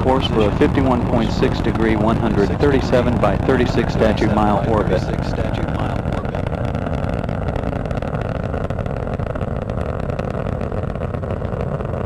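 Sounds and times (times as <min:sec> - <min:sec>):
rocket launch rumble and crackle: 0:00.0 - 0:12.0.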